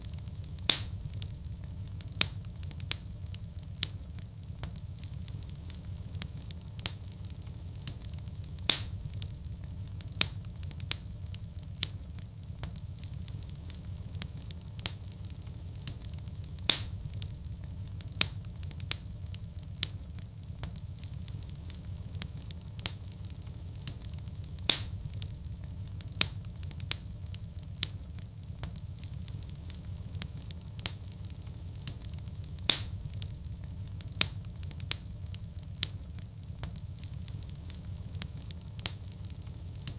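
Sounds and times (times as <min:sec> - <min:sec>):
fire popping: 0:00.0 - 0:39.9
fireplace fire crackling: 0:00.0 - 0:39.9.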